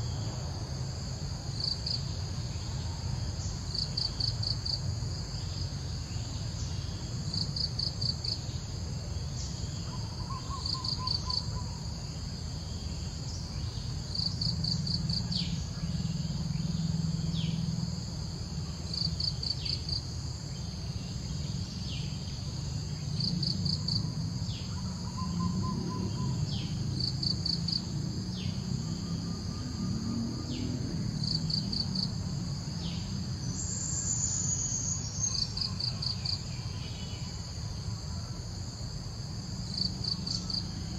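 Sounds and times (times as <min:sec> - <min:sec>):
insects chirping in pulses: 0:00.0 - 0:40.9
steady high insect hum: 0:00.0 - 0:40.9.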